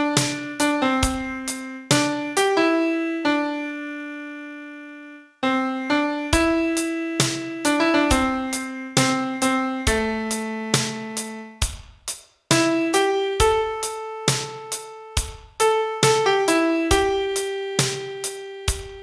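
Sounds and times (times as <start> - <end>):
solo piano slow melody: 0.0 - 11.6, 12.6 - 19.0.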